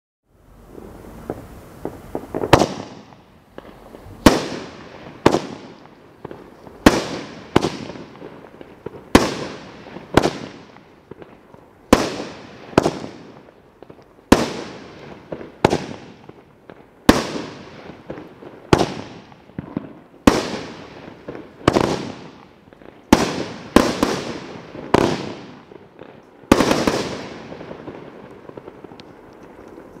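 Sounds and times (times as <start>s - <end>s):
firework reports with crackle: 0.5s - 30.0s.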